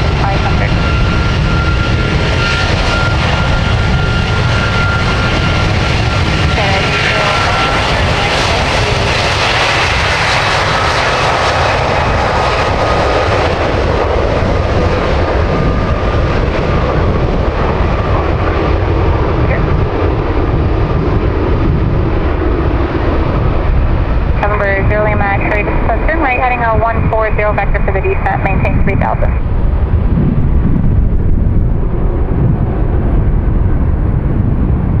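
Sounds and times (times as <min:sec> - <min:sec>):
jet engines passing: 0:00.0 - 0:35.0.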